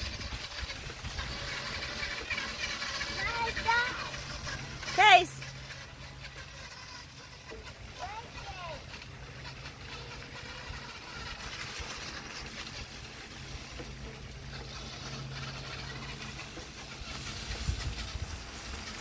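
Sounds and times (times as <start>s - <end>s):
electric bike motor hum: 0.0s - 19.0s
wheels rustling on leaves: 0.0s - 19.0s.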